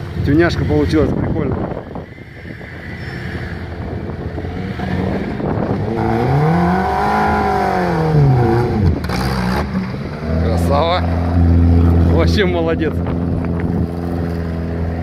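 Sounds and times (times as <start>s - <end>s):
off-road vehicle engine revving: 3.0s - 15.0s.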